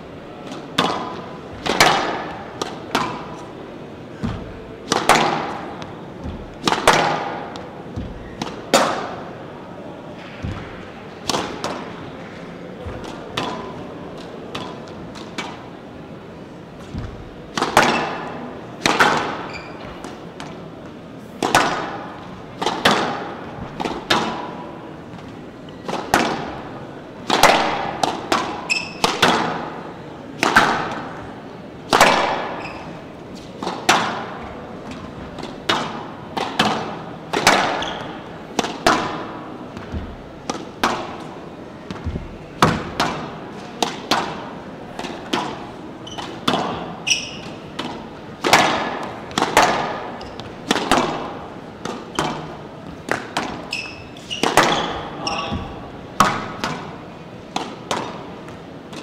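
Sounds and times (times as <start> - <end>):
squash ball thwacks echoing: 0.4 - 9.4, 10.2 - 15.7, 16.8 - 31.2, 31.9 - 59.0.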